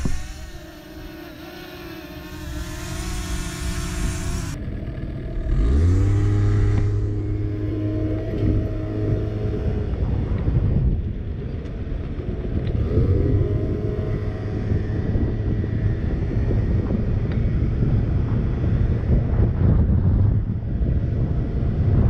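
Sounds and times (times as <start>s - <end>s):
scooter engine running: 0.0s - 19.5s
steady low rumble: 0.0s - 22.0s.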